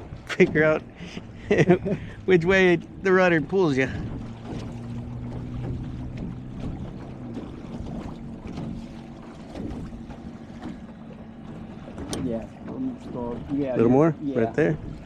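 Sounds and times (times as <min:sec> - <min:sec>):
low hum: 0:00.0 - 0:15.0
water splashing against hull: 0:00.0 - 0:15.0.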